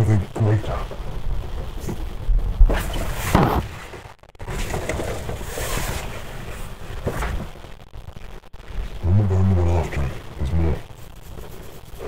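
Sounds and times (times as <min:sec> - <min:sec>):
harsh static noise: 0:00.0 - 0:12.0.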